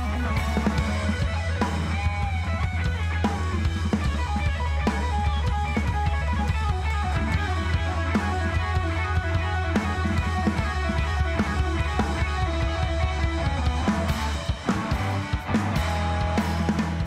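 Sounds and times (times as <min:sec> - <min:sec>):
instrumental music: 0:00.0 - 0:17.0
steady drum beat: 0:00.0 - 0:17.0.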